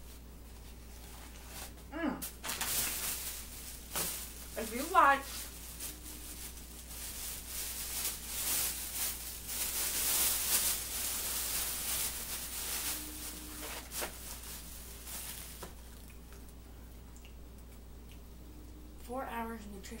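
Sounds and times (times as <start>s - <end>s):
plastic bag rustling: 0.0s - 16.1s.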